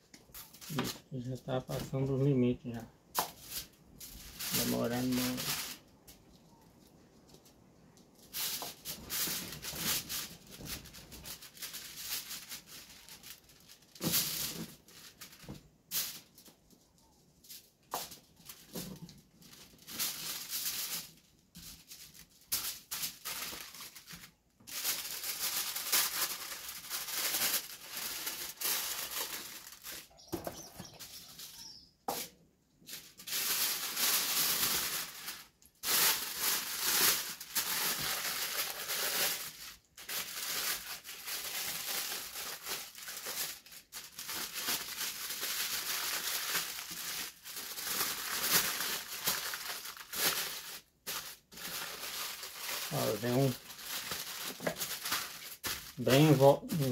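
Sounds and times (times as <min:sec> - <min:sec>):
aluminium foil crinkling: 0:00.0 - 0:56.9.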